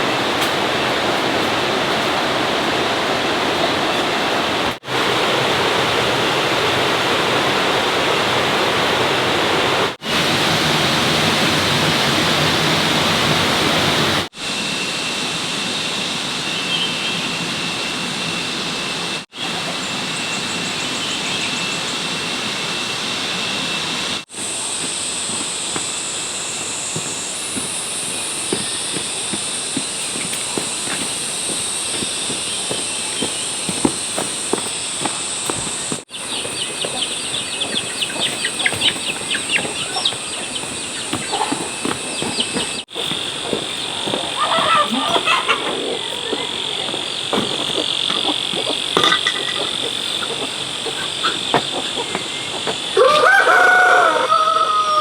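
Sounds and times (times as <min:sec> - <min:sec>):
running water rushing: 0:00.0 - 0:14.4, 0:22.3 - 0:54.3.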